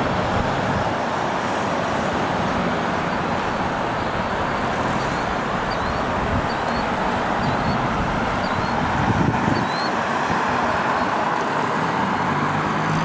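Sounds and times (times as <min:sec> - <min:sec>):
cars passing on wet road: 0:00.0 - 0:13.0.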